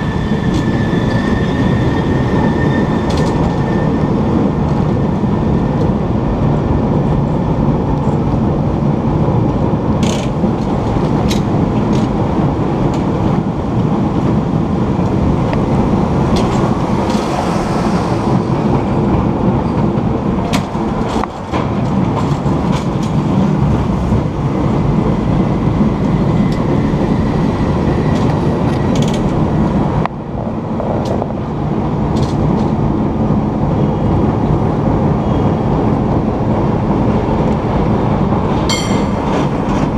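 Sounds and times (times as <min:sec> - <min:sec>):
cable car running on rails: 0:00.0 - 0:39.9.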